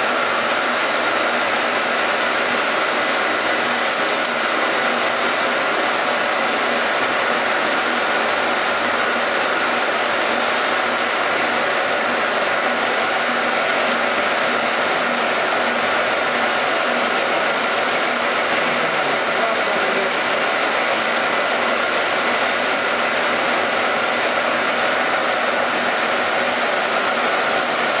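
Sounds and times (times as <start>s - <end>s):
metalworking machine running: 0.0s - 28.0s.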